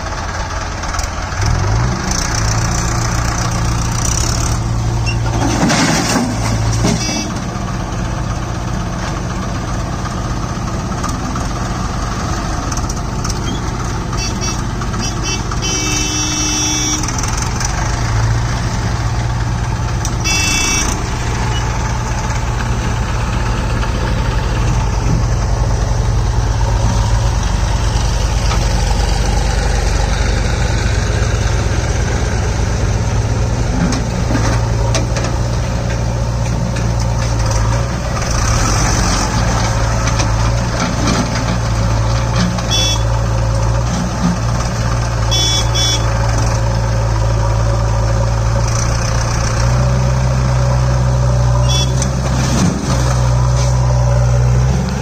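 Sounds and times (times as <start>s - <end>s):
backhoe loader working: 0.0s - 55.0s
tractor diesel engine idling: 0.0s - 55.0s.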